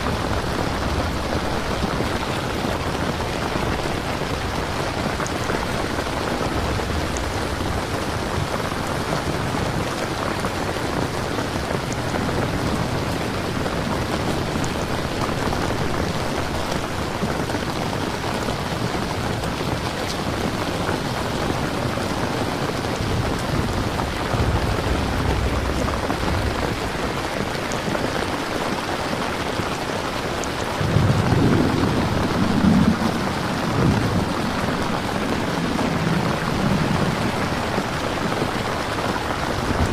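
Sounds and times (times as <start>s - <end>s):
rain falling: 0.0s - 39.9s
thunder rumbling: 0.0s - 39.9s.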